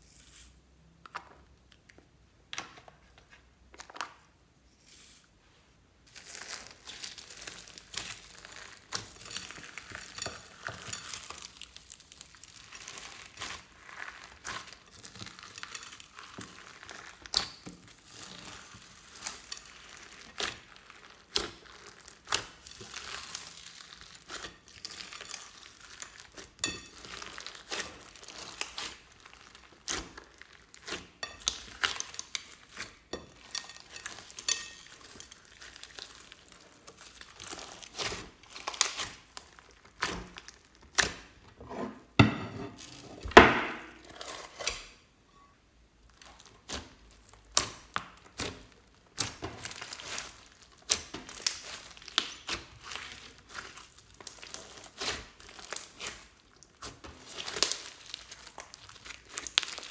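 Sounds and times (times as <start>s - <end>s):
slime crackling and popping: 6.0s - 41.4s, 46.0s - 59.9s.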